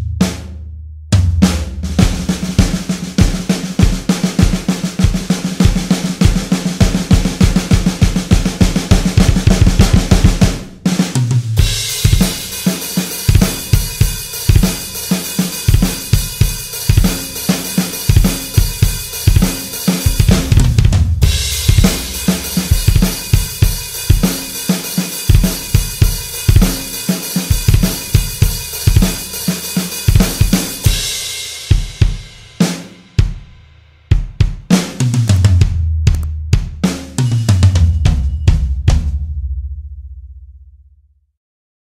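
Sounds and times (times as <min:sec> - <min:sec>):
fast kick drum strokes: 0:00.0 - 0:40.3
snare drum: 0:01.2 - 0:39.6
cymbals: 0:01.9 - 0:35.2, 0:36.8 - 0:39.2.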